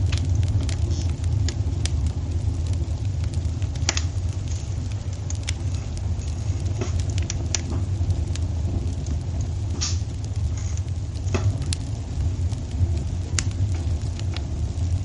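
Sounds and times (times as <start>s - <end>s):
fire pops and snaps: 0.0s - 15.0s
wood fire crackling: 0.0s - 15.0s.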